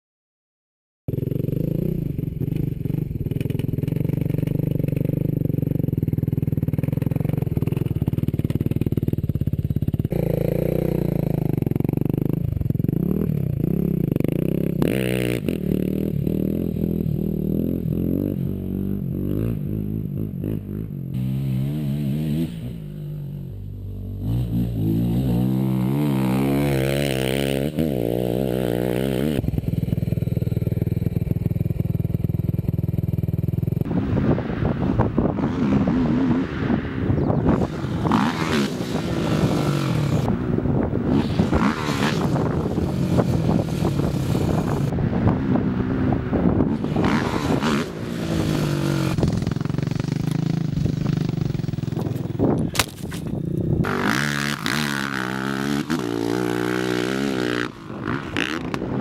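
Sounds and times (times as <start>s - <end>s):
quad engine revving: 1.1s - 59.0s.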